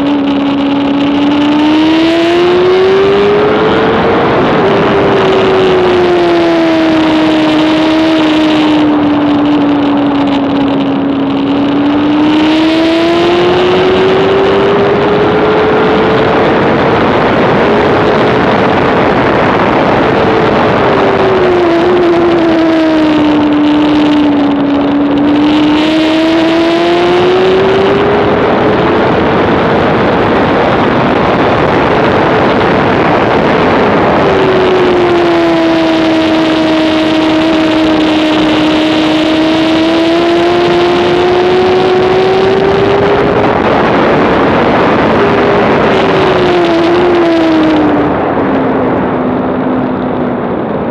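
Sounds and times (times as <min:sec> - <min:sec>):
motorcycle engine at high revs: 0:00.0 - 0:50.9
wind rush on microphone: 0:00.0 - 0:50.9.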